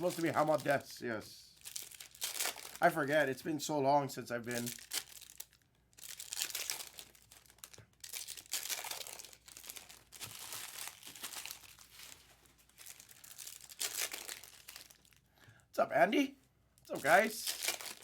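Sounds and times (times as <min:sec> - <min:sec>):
wrappers crinkling and tearing: 0:00.0 - 0:00.9, 0:01.6 - 0:03.3, 0:04.4 - 0:15.3, 0:16.8 - 0:18.0.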